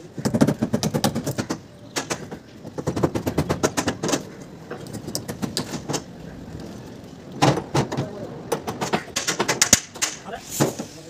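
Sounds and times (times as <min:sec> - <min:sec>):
heavier bangs: 0:00.2 - 0:10.8.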